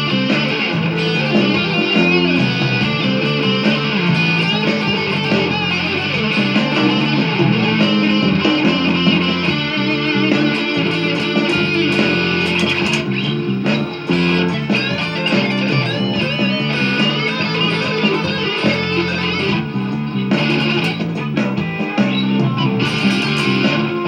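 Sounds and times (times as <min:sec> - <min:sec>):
bass line: 0:00.0 - 0:24.0
drums: 0:00.0 - 0:24.0
electric guitar bending pitch: 0:00.0 - 0:24.0.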